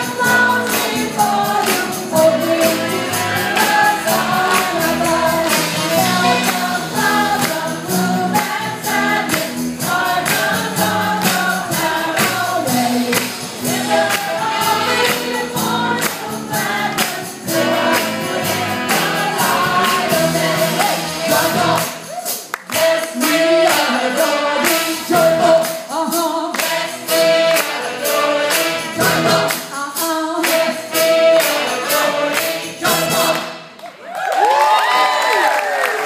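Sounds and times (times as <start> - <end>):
gospel choir singing: 0.0 - 33.8
live band playing: 0.0 - 33.8
tambourine percussion: 0.0 - 36.0.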